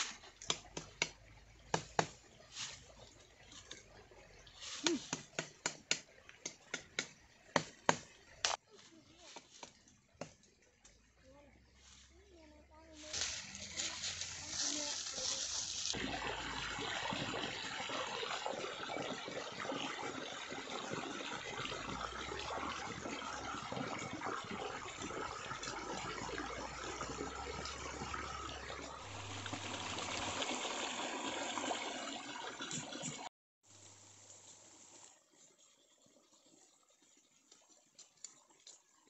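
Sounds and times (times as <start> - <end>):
stream trickling: 0.0 - 39.0.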